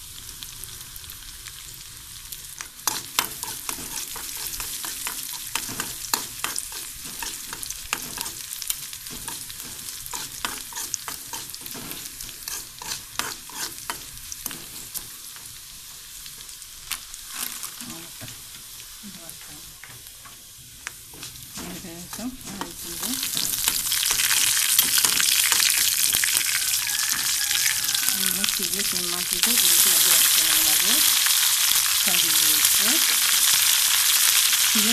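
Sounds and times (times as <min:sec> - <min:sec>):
shallots sizzling in oil: 0:00.0 - 0:34.9.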